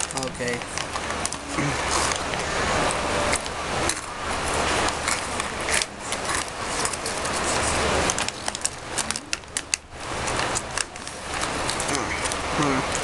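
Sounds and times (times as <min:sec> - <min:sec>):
sharp crackles and clicks: 0:00.0 - 0:13.0.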